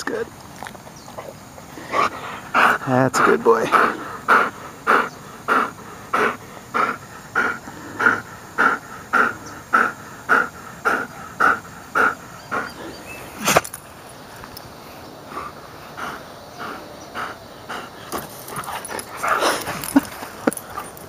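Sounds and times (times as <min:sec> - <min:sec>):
dog panting: 0:01.1 - 0:13.7, 0:15.2 - 0:21.0.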